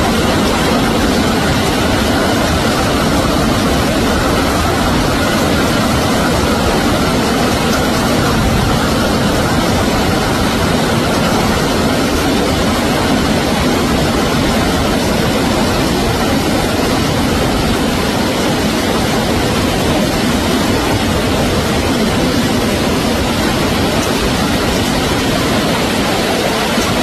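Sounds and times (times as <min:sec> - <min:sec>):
hail and rain pelting down: 0:00.0 - 0:27.0.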